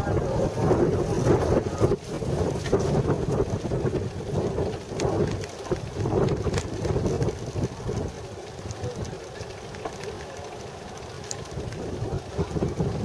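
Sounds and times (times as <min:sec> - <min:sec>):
bicycle ride rumble: 0:00.0 - 0:13.0
wind buffeting microphone: 0:00.0 - 0:13.0.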